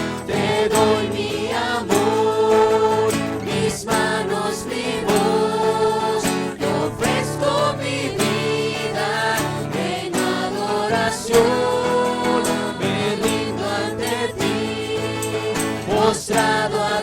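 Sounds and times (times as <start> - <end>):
instrumental accompaniment: 0.0 - 17.0
people singing worship song: 0.0 - 17.0.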